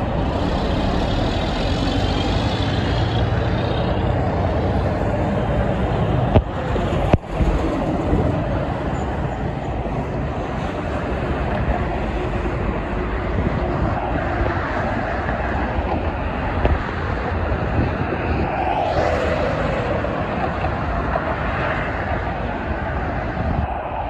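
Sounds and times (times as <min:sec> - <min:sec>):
trucks passing on a road: 0:00.0 - 0:24.0.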